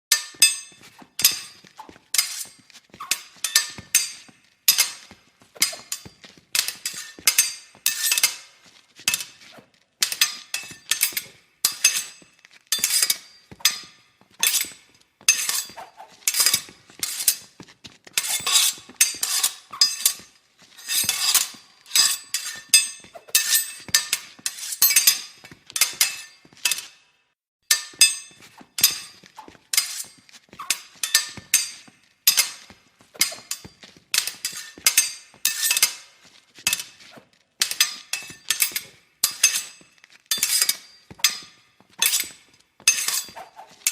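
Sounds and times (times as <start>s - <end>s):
fencing blades clashing: 0.1s - 27.1s, 27.7s - 43.9s.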